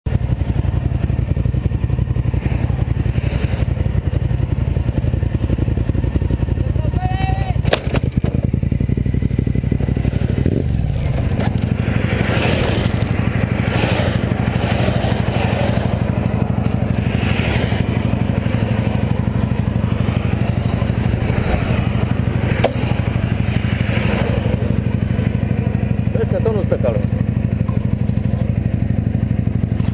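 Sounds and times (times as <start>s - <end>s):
motorcycle engine idling: 0.1s - 29.9s.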